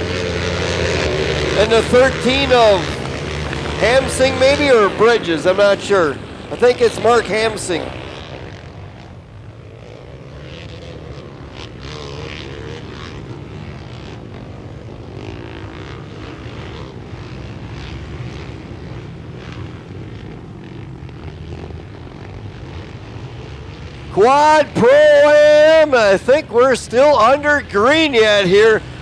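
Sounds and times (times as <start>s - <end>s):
racing quad engines droning: 0.0s - 29.0s.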